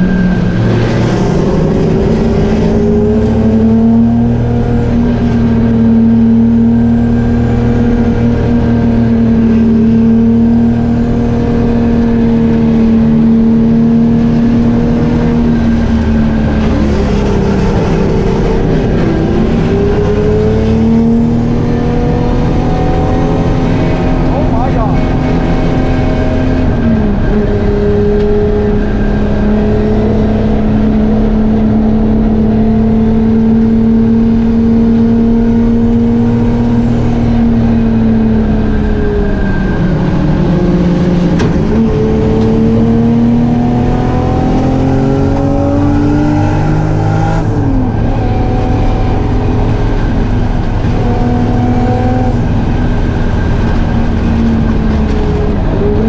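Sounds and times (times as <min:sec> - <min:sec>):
car engine at high revs: 0:00.0 - 0:56.0.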